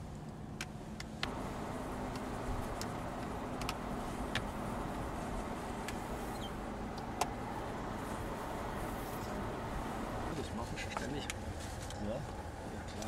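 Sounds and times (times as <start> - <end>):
road noise inside car: 0.0 - 13.0.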